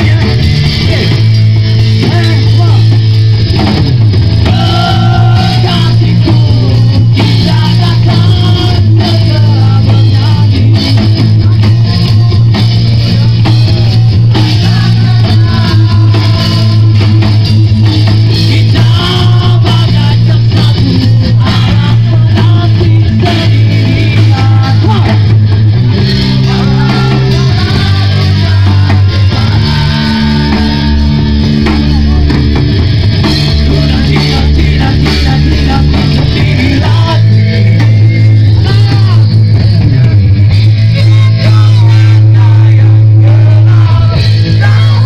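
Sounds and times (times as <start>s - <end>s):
man singing lead vocal: 0.0s - 3.1s, 4.3s - 45.0s
bass guitar: 0.0s - 45.0s
drum kit: 0.0s - 45.0s
electric guitars: 0.0s - 45.0s.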